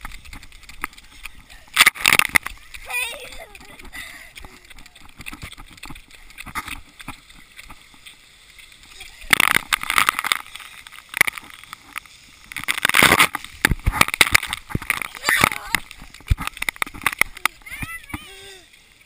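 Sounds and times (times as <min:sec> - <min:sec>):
water splashing on camera housing: 0:00.0 - 0:18.4.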